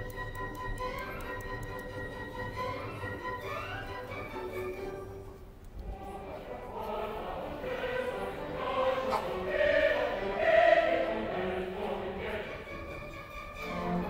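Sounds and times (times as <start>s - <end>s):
choir singing with orchestra: 1.4s - 14.0s.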